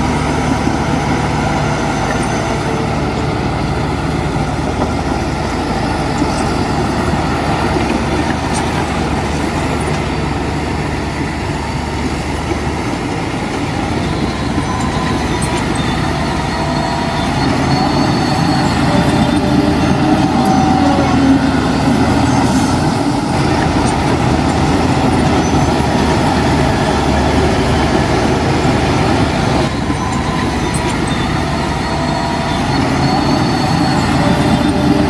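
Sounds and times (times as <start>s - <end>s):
diesel earthmoving machinery: 0.0s - 35.0s.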